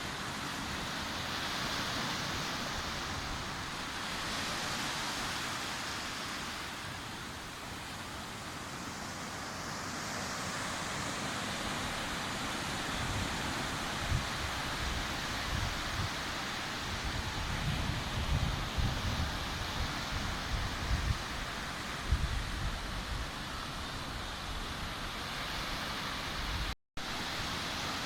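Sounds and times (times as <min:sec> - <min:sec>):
waves breaking on beach: 0:00.0 - 0:28.0.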